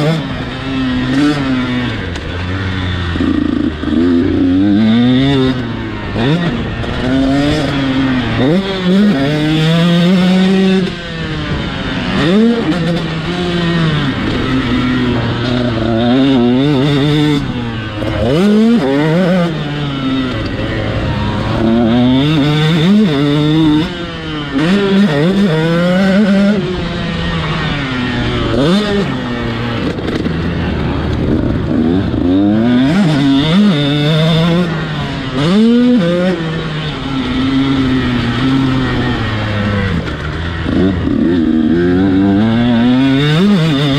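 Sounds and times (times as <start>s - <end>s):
motocross engine revving: 0.0s - 43.9s.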